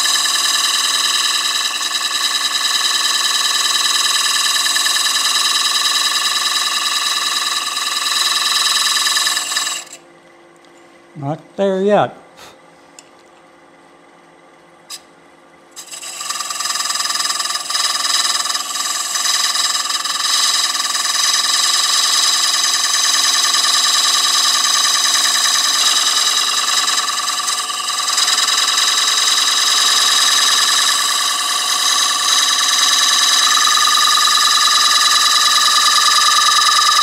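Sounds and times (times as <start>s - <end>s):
lathe tool scraping wood: 0.0s - 10.0s, 15.8s - 37.0s.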